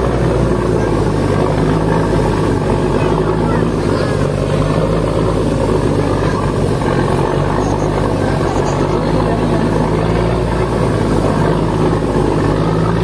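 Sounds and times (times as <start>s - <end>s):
boat engine drone: 0.0s - 13.0s
water rushing along hull: 0.0s - 13.0s.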